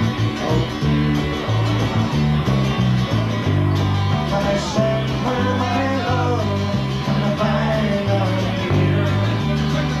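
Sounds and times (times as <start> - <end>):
acoustic guitar strumming: 0.0 - 10.0
bass guitar line: 0.0 - 10.0.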